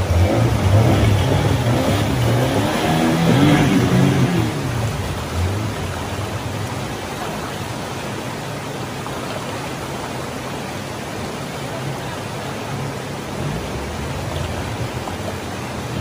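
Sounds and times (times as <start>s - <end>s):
river rapids rushing over rocks: 0.0s - 16.0s.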